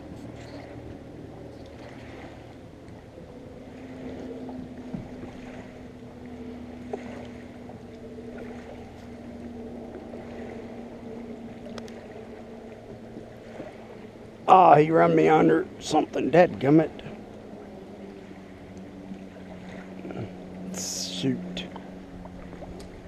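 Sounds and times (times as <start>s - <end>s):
faint steady hum: 0.0s - 23.0s
water lapping against boat hull: 0.0s - 23.0s.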